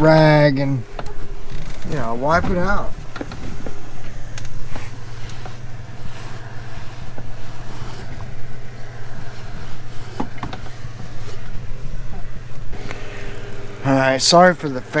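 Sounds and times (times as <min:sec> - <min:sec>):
fan humming with rushing air: 0:00.0 - 0:15.0.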